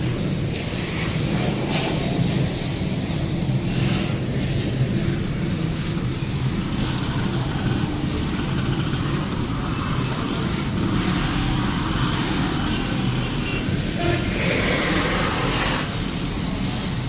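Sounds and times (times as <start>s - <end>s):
pressure washer motor hum: 0.0s - 17.0s
water jet hissing: 0.0s - 17.0s.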